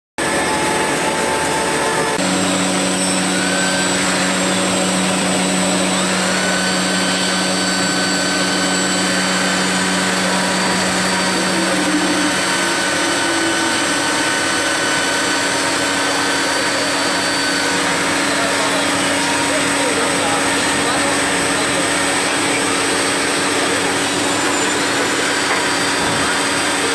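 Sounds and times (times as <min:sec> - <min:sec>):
drilling machine humming: 0:00.2 - 0:26.9
machine whine: 0:00.2 - 0:26.9.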